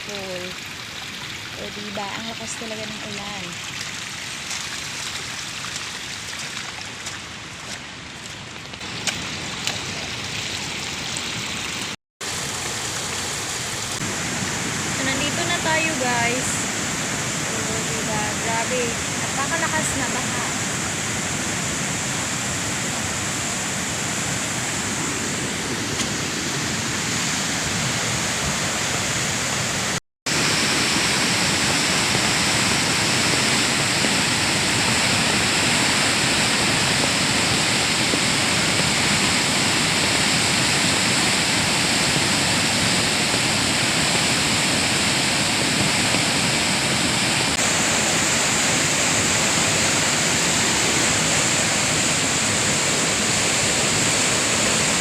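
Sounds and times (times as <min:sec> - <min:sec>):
heavy rain: 0:00.0 - 0:55.0
river rushing in flood: 0:00.0 - 0:55.0.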